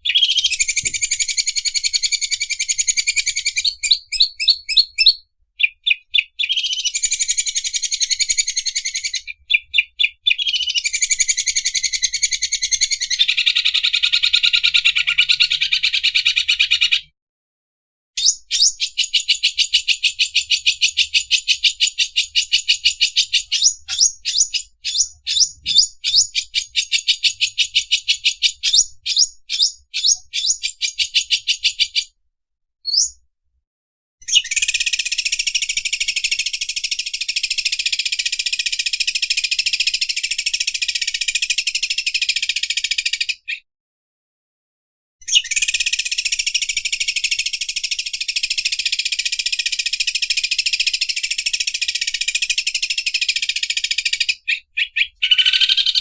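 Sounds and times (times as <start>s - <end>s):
bird chirps: 0.0s - 17.1s, 18.2s - 32.2s, 32.8s - 33.2s, 34.2s - 43.7s, 45.2s - 56.0s.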